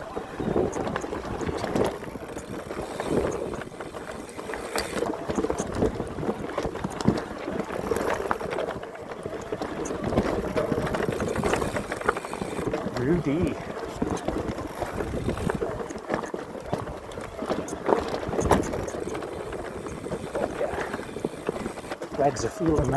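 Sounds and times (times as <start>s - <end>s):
bike tyres rushing on dirt: 0.0s - 22.9s
wheels knocking on roots: 0.0s - 22.9s.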